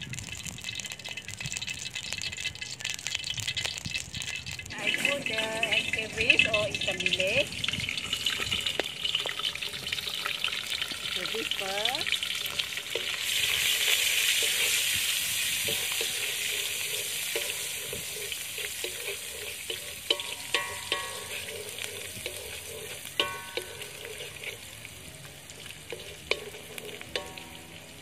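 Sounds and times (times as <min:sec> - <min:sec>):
fish sizzling in hot oil: 0:00.0 - 0:28.0
wooden spatula scraping wok: 0:03.5 - 0:07.4, 0:08.0 - 0:28.0.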